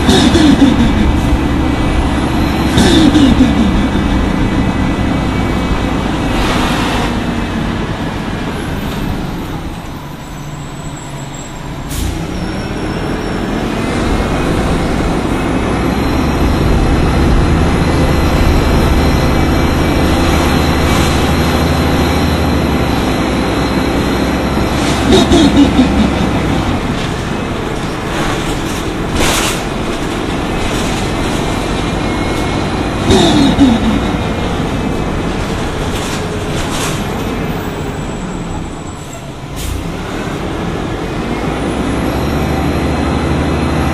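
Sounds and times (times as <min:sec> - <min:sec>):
bus engine running: 0:00.0 - 0:43.9.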